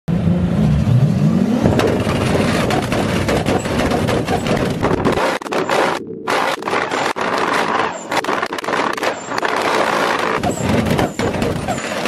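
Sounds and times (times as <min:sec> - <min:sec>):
car engine revving: 0:00.1 - 0:12.0
crackling exhaust pops and bangs: 0:01.6 - 0:12.0.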